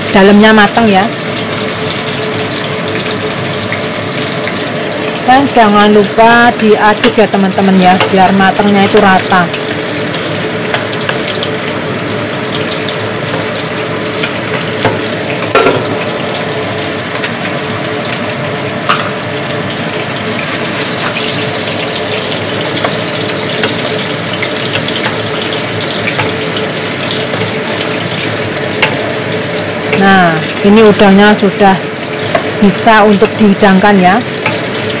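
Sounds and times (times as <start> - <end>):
prawns sizzling in a frying pan: 0.0 - 35.0.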